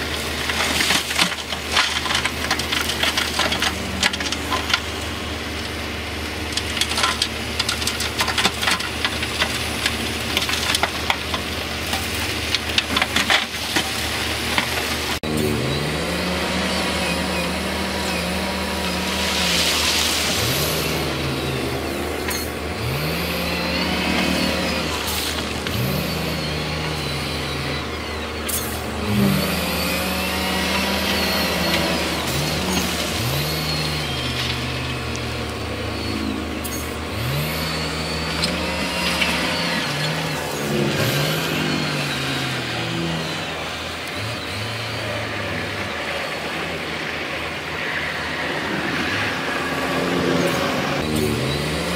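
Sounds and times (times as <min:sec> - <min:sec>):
engines revving: 0:00.0 - 0:51.9
low engine hum: 0:00.0 - 0:51.9.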